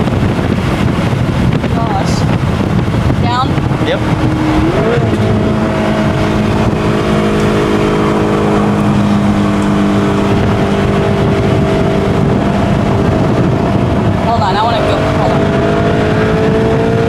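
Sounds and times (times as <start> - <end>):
car engine running steadily: 0.0 - 17.0.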